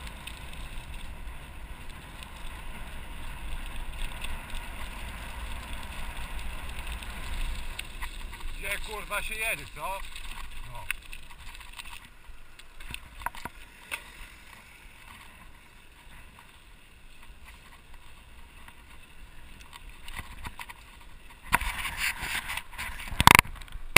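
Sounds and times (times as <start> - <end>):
bike tyres rumbling on paving: 0.0 - 23.9.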